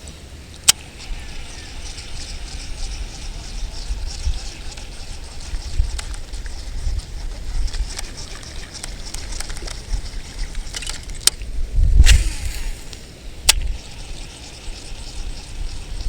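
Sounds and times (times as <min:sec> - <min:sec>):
wind buffeting microphone: 0:00.3 - 0:16.0.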